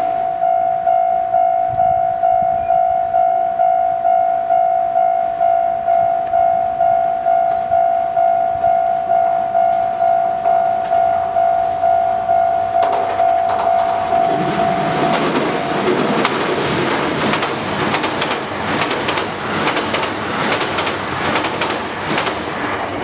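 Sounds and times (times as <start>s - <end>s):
level crossing warning bell: 0.0s - 21.0s
oncoming train: 0.0s - 23.0s.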